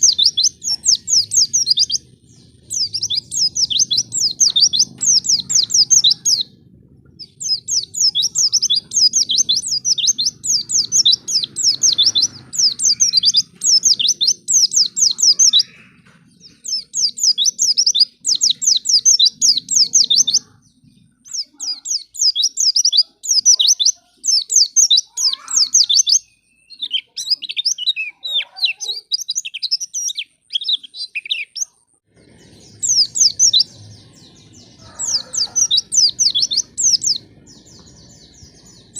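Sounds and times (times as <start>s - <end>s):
small birds twittering chirps: 0.0s - 38.9s.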